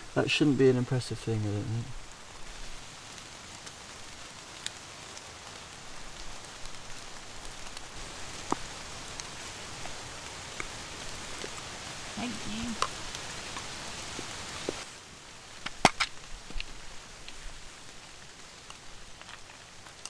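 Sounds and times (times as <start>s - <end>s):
rain on a canvas tent: 0.0s - 20.0s.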